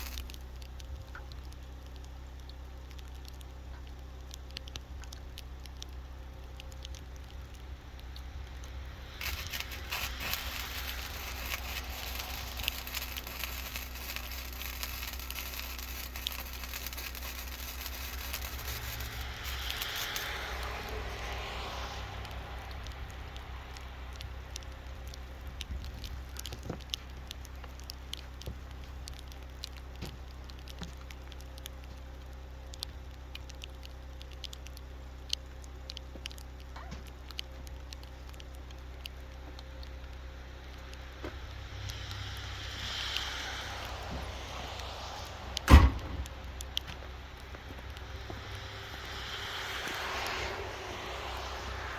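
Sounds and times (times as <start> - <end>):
light ticks: 0.0 - 21.4, 22.1 - 50.6
welding arc crackling: 0.0 - 51.9.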